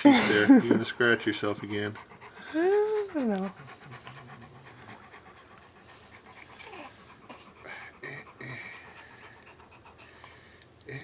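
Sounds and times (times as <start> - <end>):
dog panting: 0.2 - 10.7.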